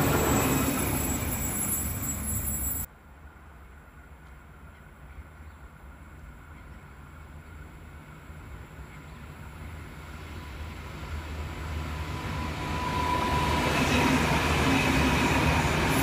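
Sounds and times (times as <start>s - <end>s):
diesel train passing: 0.0s - 16.0s.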